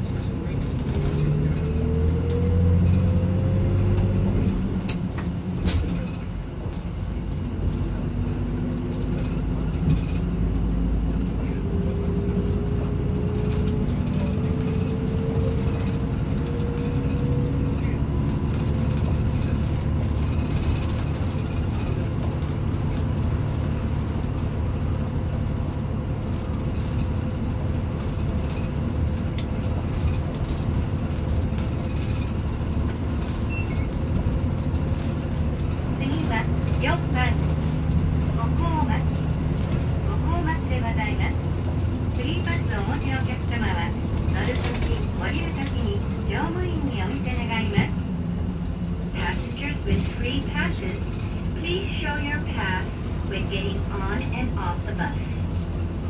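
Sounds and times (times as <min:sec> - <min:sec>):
bus engine accelerating: 0:00.0 - 0:56.0.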